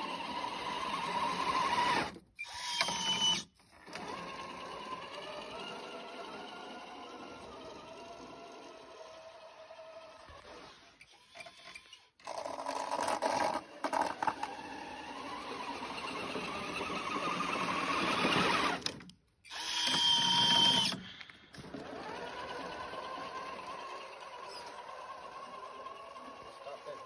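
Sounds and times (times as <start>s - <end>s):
electric motor and gearbox whining: 0.0s - 27.0s.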